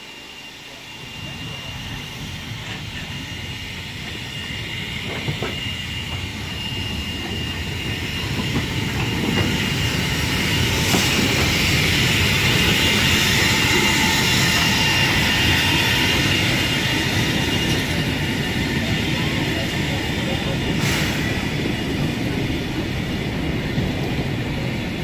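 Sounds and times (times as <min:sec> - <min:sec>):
high squeal of wheels: 0:00.0 - 0:22.6
train running: 0:00.0 - 0:25.0.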